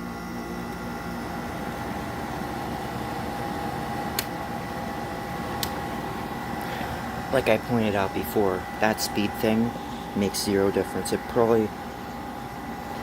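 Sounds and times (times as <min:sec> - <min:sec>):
air conditioner fan whirring: 0:00.0 - 0:13.0.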